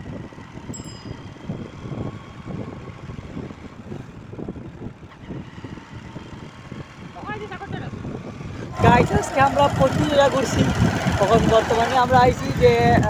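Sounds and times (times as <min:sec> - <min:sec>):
motorcycle engine rumble: 0:00.0 - 0:13.0
wind rushing over microphone: 0:00.0 - 0:13.0.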